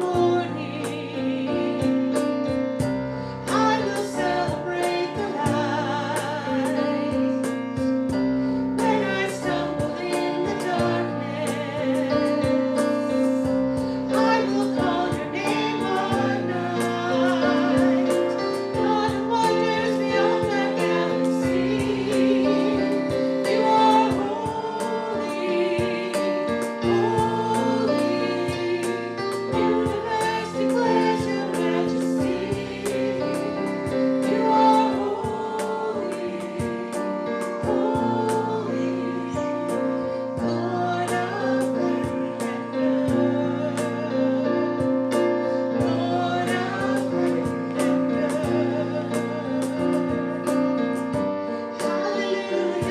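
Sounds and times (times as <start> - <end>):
congregation singing a worship song: 0.0 - 52.9
keyboard chords: 0.0 - 52.9.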